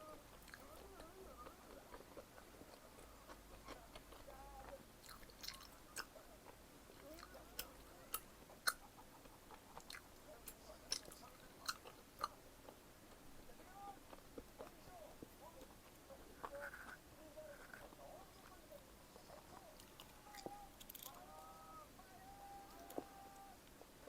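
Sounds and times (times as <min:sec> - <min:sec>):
person chewing food: 0:00.1 - 0:21.5.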